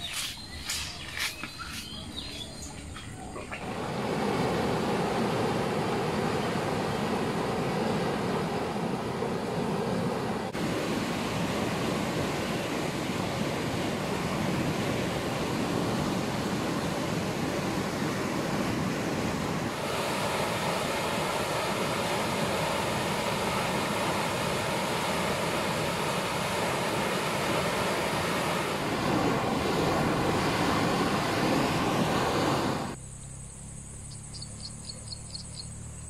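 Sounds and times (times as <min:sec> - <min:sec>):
water rushing over weir: 0:02.7 - 0:33.0.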